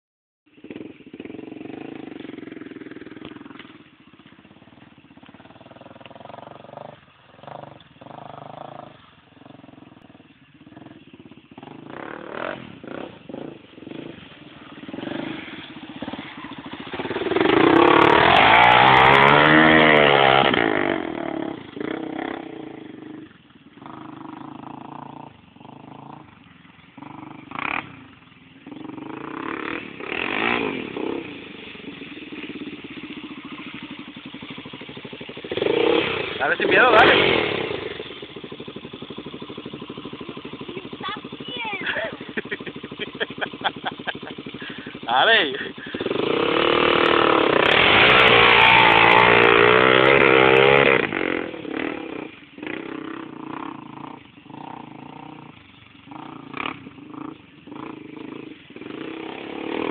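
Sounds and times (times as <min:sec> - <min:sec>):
quad bike engine revving: 0:00.5 - 0:59.9.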